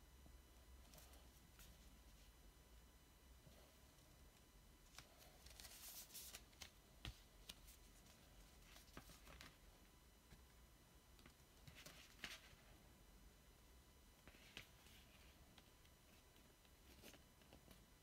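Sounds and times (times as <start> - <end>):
low hiss: 0.0 - 18.0.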